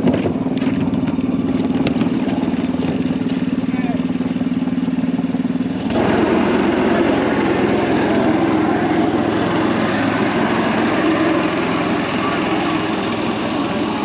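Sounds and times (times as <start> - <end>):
boat engine revving: 0.0 - 14.0.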